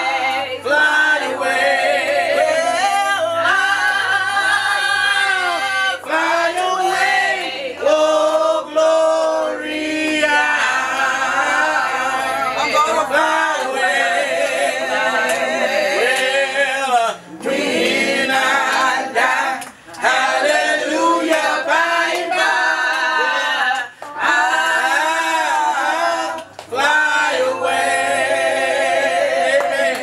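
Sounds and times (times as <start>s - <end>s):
group singing a cappella gospel: 0.0s - 30.0s.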